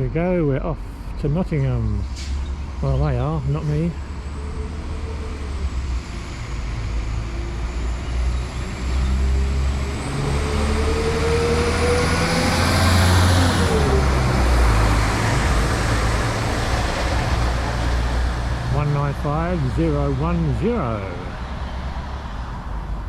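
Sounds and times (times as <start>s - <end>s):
train engine rumble with whine: 0.0s - 11.3s, 13.6s - 23.0s.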